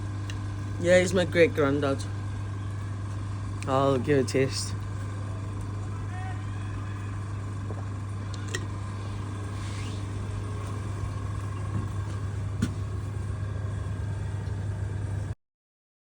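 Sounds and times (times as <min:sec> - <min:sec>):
low mechanical hum: 0:00.0 - 0:15.4.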